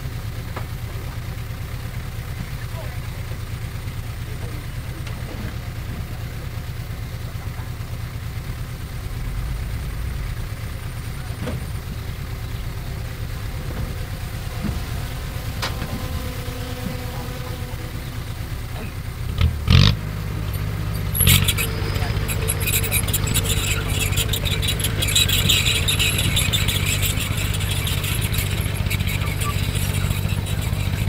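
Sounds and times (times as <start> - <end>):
diesel engine droning: 0.0 - 31.0.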